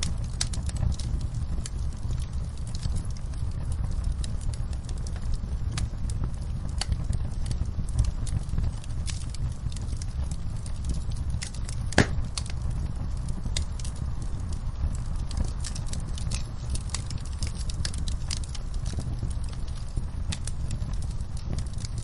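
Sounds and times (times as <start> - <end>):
campfire crackling and popping: 0.0 - 22.0
low fire rumble: 0.0 - 22.0.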